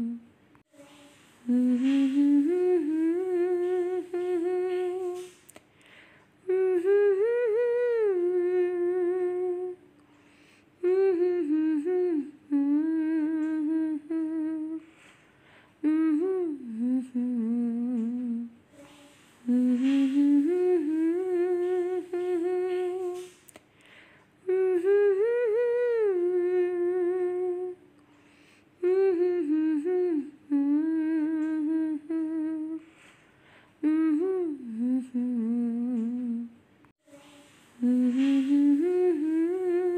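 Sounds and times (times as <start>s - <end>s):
woman humming: 0.0s - 5.6s, 6.4s - 9.8s, 10.8s - 14.9s, 15.8s - 23.4s, 24.4s - 27.8s, 28.8s - 32.9s, 33.8s - 39.9s.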